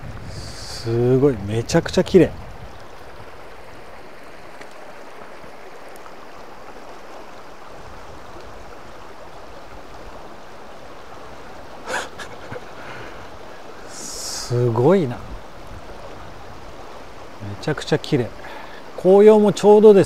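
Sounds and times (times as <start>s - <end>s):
river flowing over stones: 0.0s - 20.0s.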